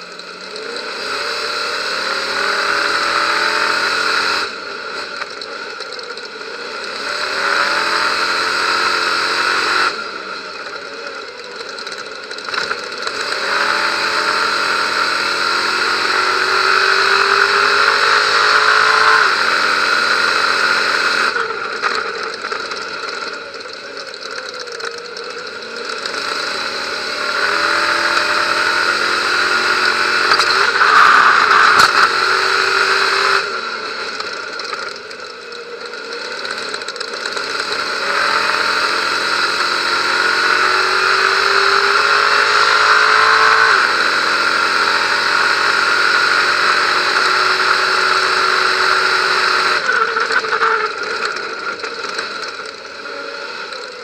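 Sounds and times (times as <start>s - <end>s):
truck engine at full throttle: 0.0s - 54.0s.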